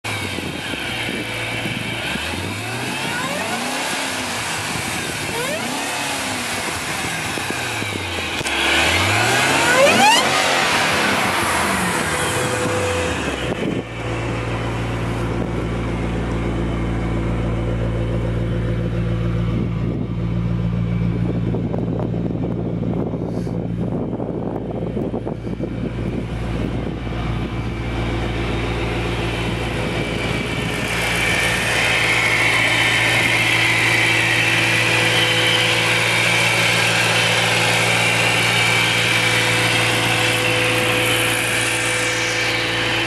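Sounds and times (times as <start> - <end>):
car engine idling: 0.0 - 43.0
car engine revving: 0.0 - 43.0.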